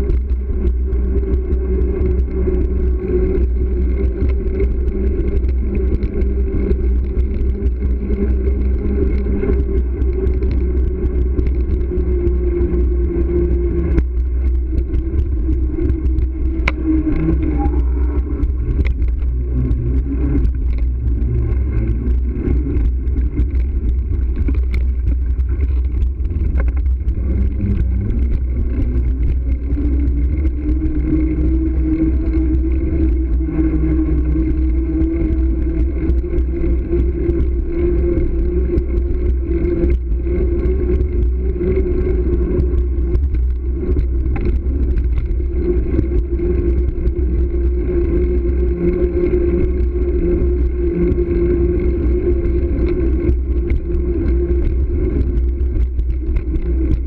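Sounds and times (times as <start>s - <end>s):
wavering hum: 0.0s - 57.0s
wind buffeting microphone: 0.0s - 57.0s.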